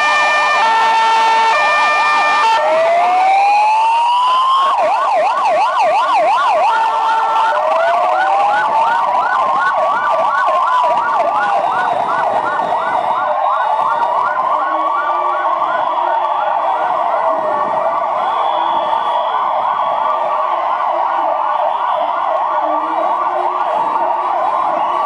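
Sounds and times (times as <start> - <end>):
police sirens: 0.0 - 25.0.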